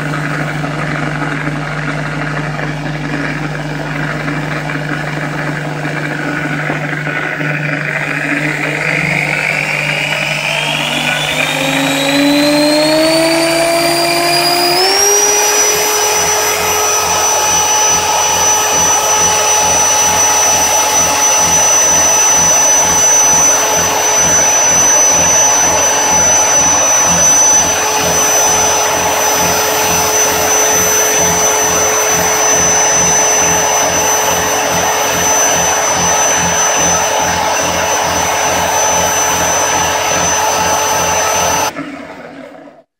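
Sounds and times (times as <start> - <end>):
power drill motor whine: 0.0 - 42.7.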